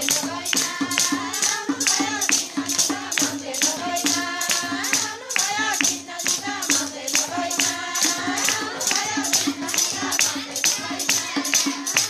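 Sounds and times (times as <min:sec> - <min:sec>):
shaken jingling percussion: 0:00.0 - 0:12.0
women singing folk song: 0:00.0 - 0:12.0.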